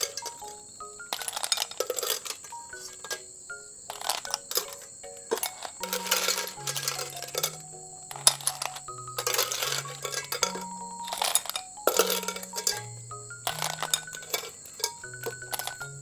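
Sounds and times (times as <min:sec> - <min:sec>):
snail shells clinking in bowl: 0:00.0 - 0:16.0.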